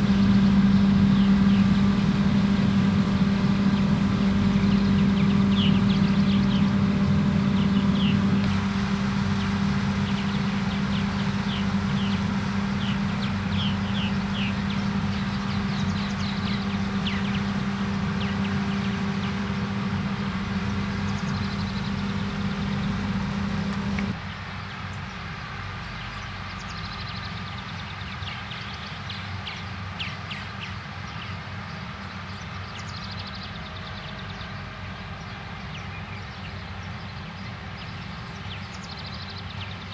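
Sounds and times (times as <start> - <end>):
farm machinery engine humming: 0.0 - 39.9.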